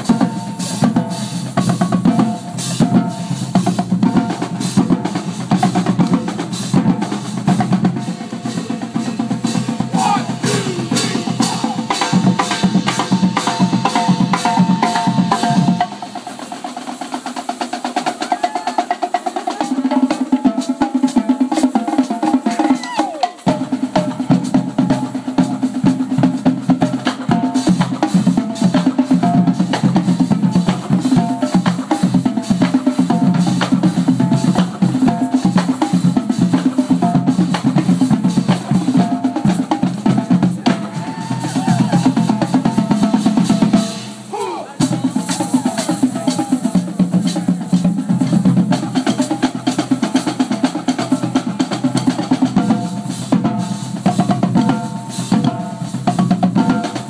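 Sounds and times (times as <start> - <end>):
drumline playing snare and bass: 0.0 - 57.0.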